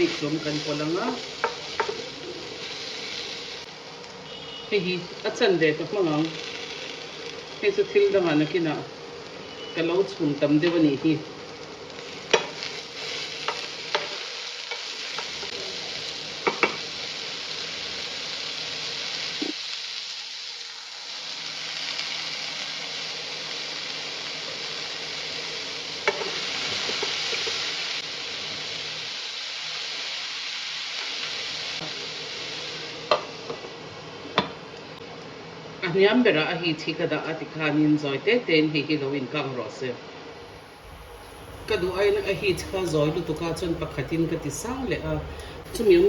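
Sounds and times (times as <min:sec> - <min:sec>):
food sizzling in a pan: 0:00.0 - 0:36.6, 0:40.2 - 0:46.0.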